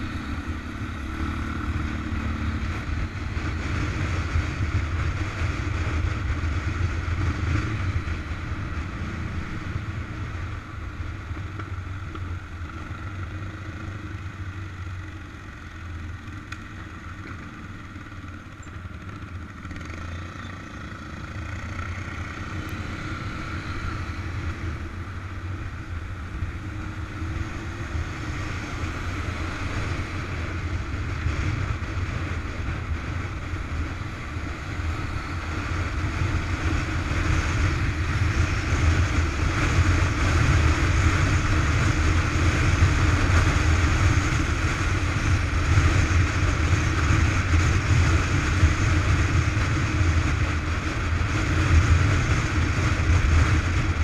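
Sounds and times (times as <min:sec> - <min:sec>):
motorcycle engine running: 0:00.0 - 0:54.0
road noise: 0:00.0 - 0:54.0.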